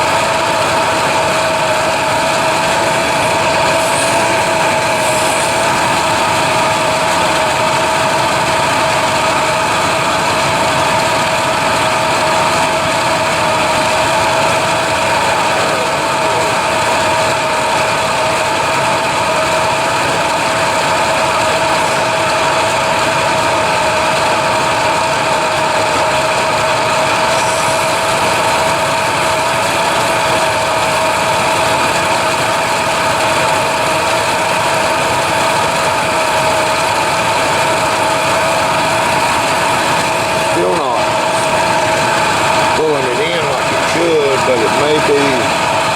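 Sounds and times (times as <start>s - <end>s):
machine humming: 0.0s - 45.9s.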